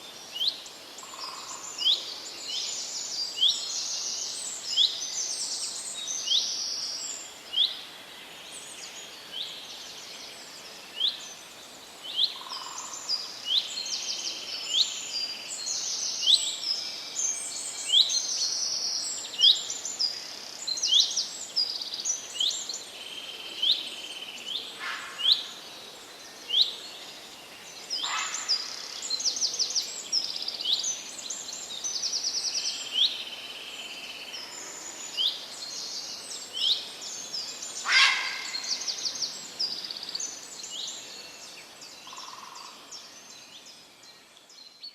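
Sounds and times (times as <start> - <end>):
soft steady background hiss: 0.0 - 44.9
songbirds chirping and trilling: 0.0 - 44.9.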